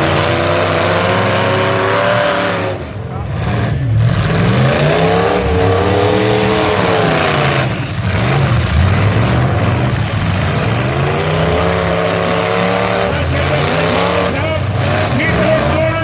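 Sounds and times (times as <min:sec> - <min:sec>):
pickup truck engines revving: 0:00.0 - 0:16.0.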